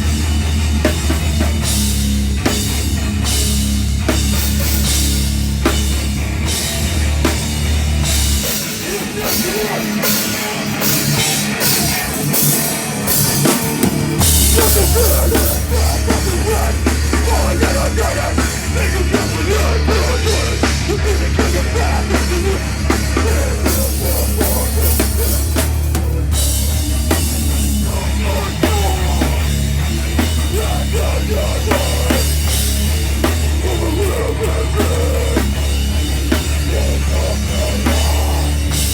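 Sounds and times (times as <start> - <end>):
heavy rock band playing live: 0.0 - 38.9.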